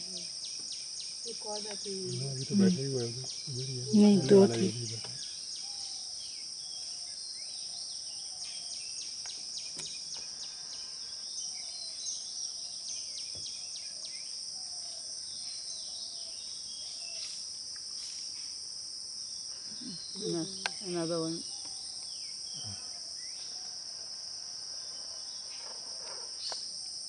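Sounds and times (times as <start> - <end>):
insect chorus droning: 0.0 - 27.0.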